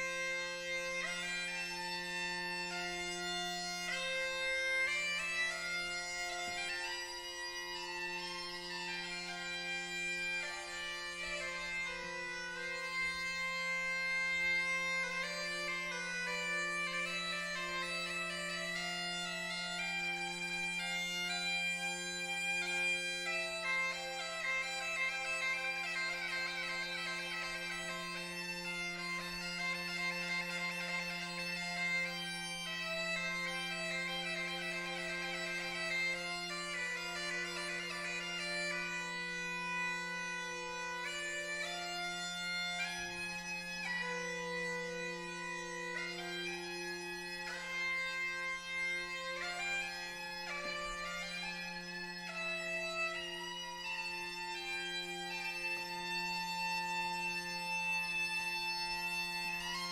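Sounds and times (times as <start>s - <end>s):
bagpipe playing: 0.0s - 59.9s.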